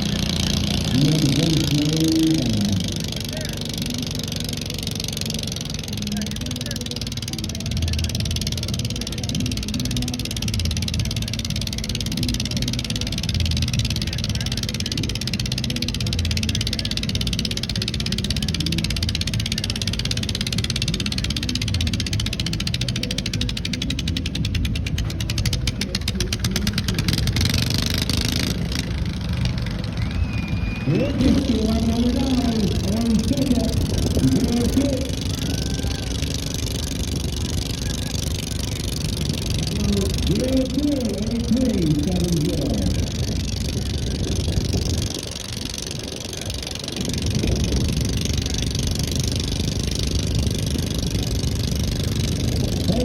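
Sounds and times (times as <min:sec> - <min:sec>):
rapid even ticking: 0:00.0 - 0:30.0, 0:30.9 - 0:53.0
tractor engine rumble: 0:00.0 - 0:53.0.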